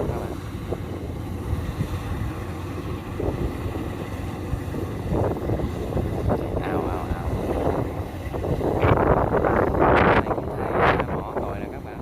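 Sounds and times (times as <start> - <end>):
combine harvester engine drone: 0.0 - 12.0
wind on microphone: 0.0 - 12.0.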